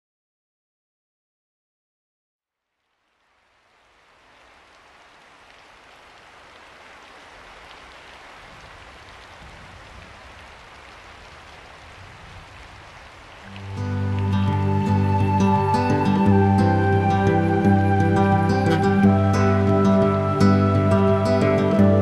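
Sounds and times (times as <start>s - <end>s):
steady rain hiss: 2.6s - 22.0s.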